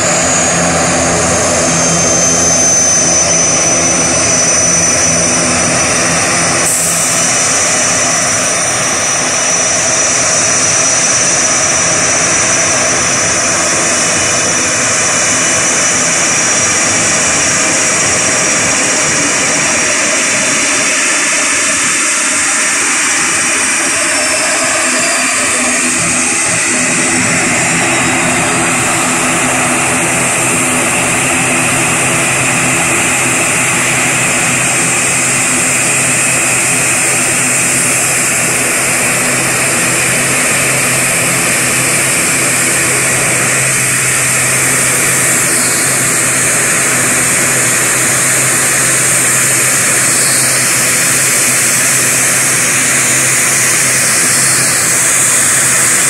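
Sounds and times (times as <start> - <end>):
turboprop engines running: 0.0 - 56.0.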